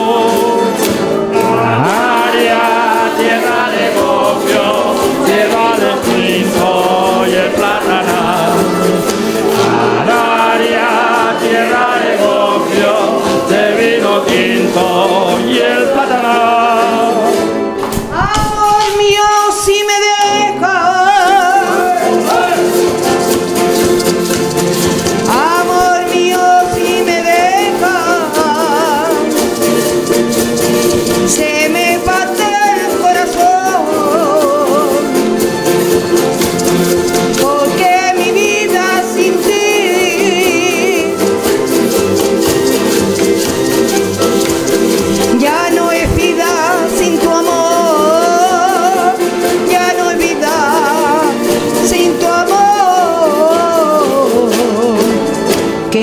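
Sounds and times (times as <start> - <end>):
woman singing with vibrato: 0.0 - 0.8, 1.4 - 17.3, 18.1 - 22.9, 25.2 - 29.6, 31.1 - 35.2, 37.3 - 41.7, 45.2 - 56.0
guitars and lutes strumming: 0.0 - 56.0.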